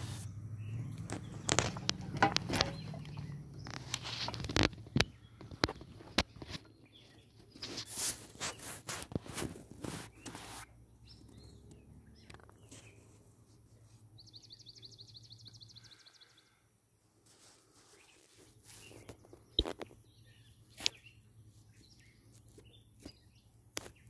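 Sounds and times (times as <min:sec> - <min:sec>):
faint bird chirps: 0:00.0 - 0:08.8, 0:10.0 - 0:16.7, 0:17.5 - 0:24.0.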